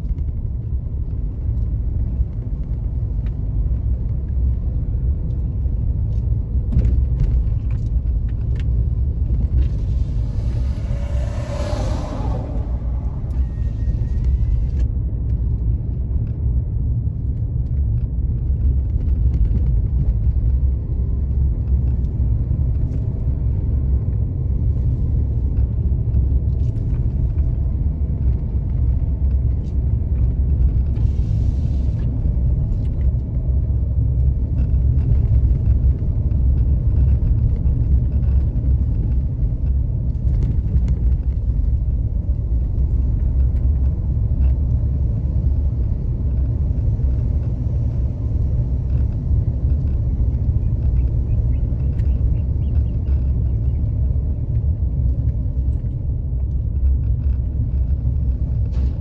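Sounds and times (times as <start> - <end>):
car engine: 0.0 - 59.0
tyre noise on paved road: 0.0 - 59.0.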